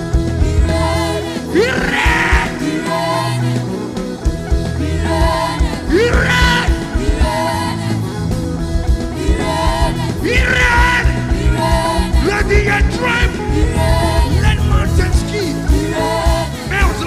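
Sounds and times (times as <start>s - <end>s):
gospel band with drums and bass: 0.0s - 17.0s
person singing: 0.4s - 4.0s, 4.7s - 17.0s.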